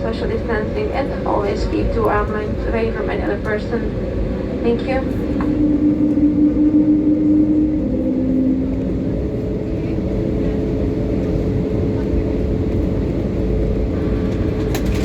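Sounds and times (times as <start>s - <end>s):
airplane cabin rumble: 0.0s - 15.0s
steady hum: 0.0s - 15.0s.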